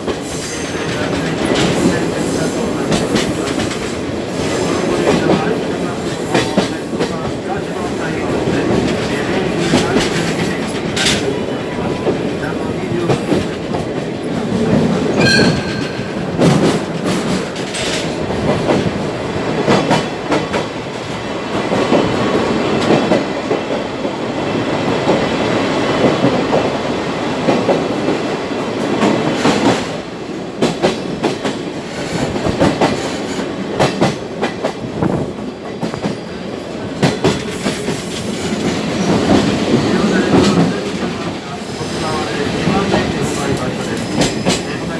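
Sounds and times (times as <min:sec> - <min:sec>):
train carriage rumbling: 0:00.0 - 0:44.9.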